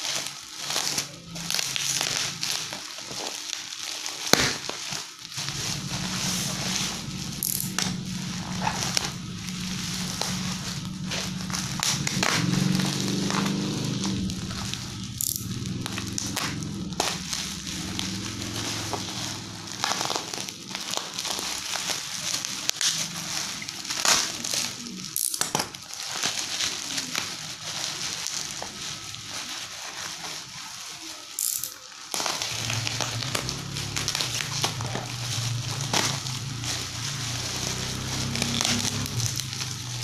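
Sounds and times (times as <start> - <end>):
plastic packaging crinkling: 0.0 - 40.0.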